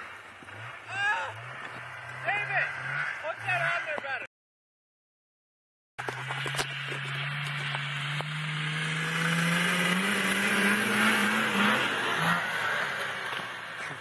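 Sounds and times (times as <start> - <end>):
snowmobile engine: 0.0 - 4.3, 6.0 - 14.0.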